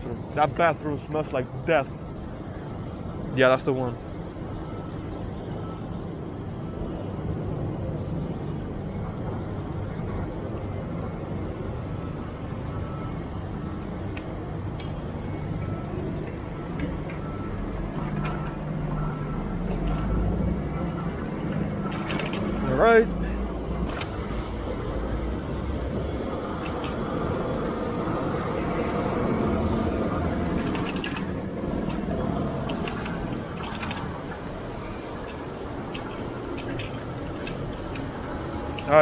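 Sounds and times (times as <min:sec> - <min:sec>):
heavy vehicle engine rumble: 0:00.0 - 0:39.0
road traffic noise: 0:00.0 - 0:39.0.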